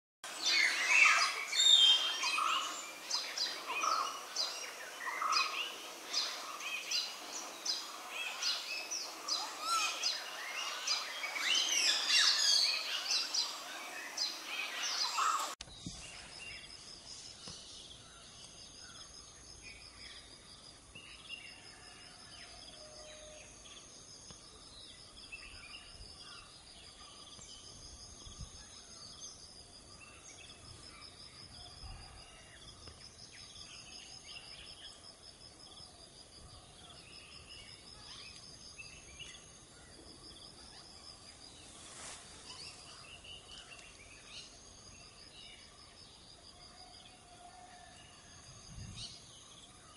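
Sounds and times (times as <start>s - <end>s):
chorus of forest birds: 0.2s - 49.9s
insects trilling: 0.3s - 49.9s.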